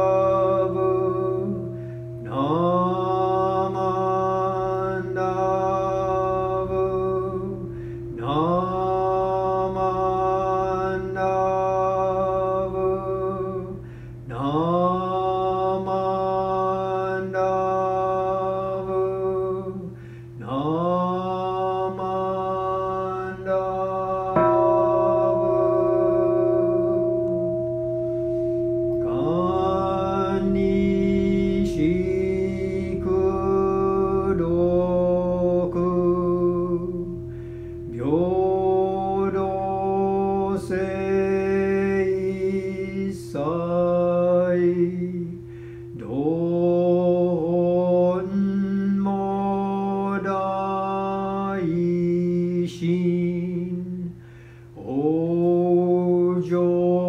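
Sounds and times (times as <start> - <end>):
person chanting slowly: 0.0 - 57.0
steady held background tones: 0.0 - 57.0.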